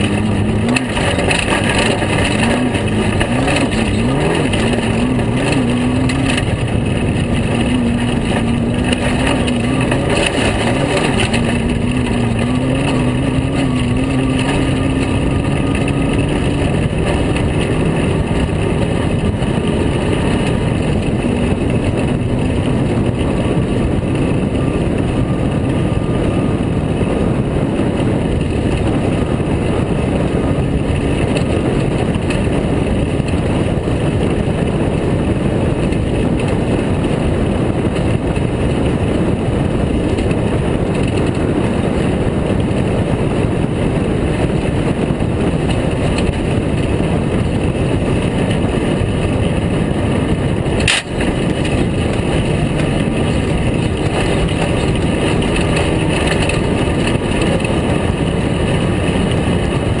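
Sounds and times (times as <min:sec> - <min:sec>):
racing car engine: 0:00.0 - 1:00.0
rough road noise: 0:00.0 - 1:00.0
wind rushing: 0:00.0 - 1:00.0.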